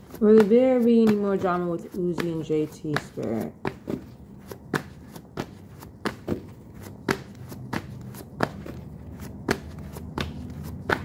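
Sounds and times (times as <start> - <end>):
cards being shuffled by hand: 0.0 - 11.0.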